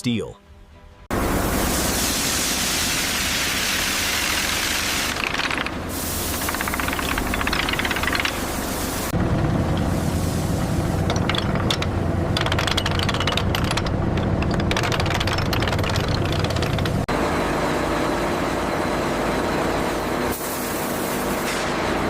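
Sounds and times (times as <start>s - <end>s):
factory machinery humming and rattling: 1.1s - 22.0s.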